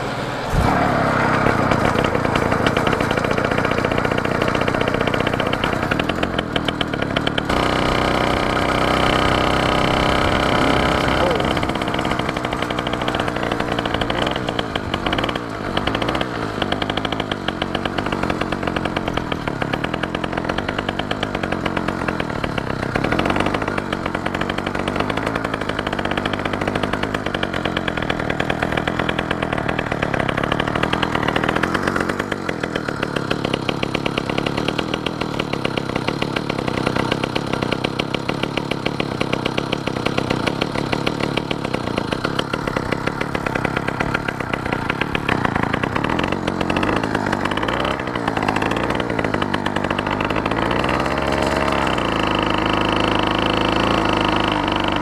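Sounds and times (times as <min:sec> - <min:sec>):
bicycle engine buzzing: 0:00.0 - 0:55.0.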